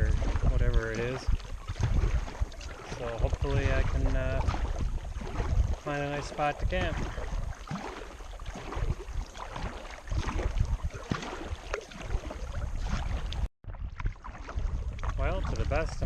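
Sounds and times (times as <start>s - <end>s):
paddle strokes splashing water: 0.0s - 16.0s
wind buffeting microphone: 0.0s - 16.0s.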